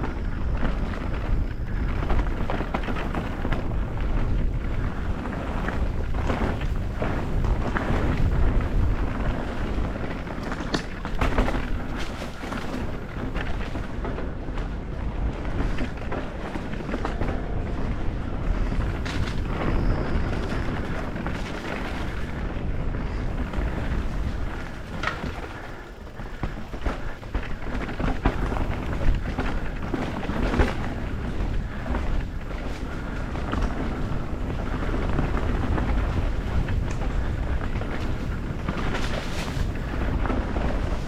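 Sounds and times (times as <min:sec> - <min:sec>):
bike clattering over bumps: 0:00.0 - 0:41.0
wind and tyres rumbling: 0:00.0 - 0:41.0.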